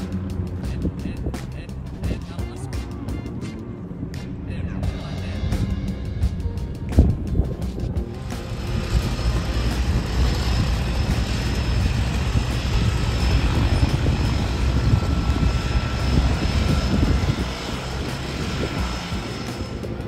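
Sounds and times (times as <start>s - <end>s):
floatplane engine and propeller: 0.0s - 20.0s.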